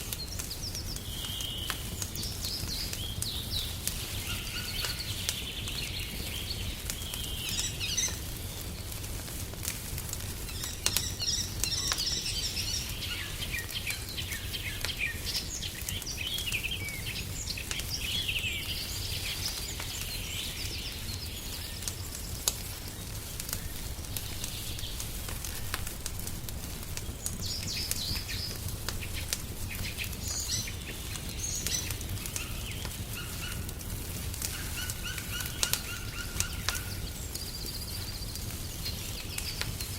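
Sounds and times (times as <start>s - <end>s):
songbirds chirping: 0.0s - 39.9s
wood fire crackling: 0.0s - 39.9s.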